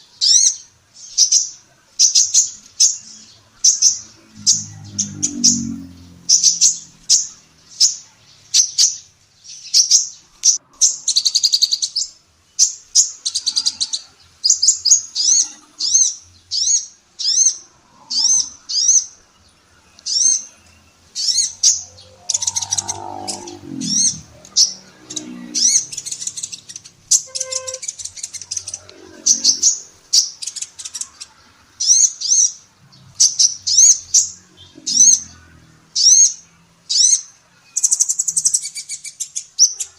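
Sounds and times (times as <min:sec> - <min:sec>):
sunbird singing high chirps: 0:00.0 - 0:39.9.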